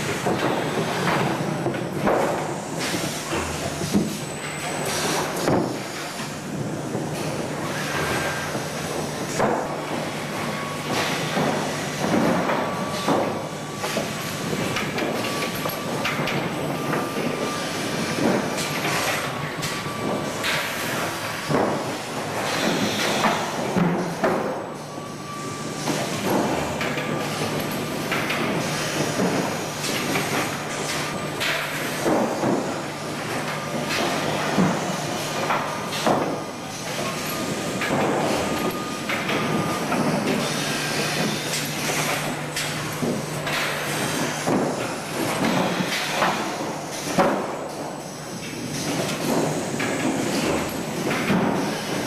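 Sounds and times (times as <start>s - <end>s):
machine clanks and knocks: 0.0s - 52.0s.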